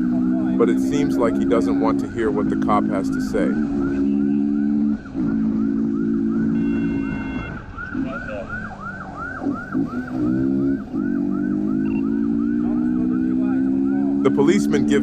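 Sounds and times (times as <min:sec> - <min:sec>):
police siren yelping: 0:00.0 - 0:15.0.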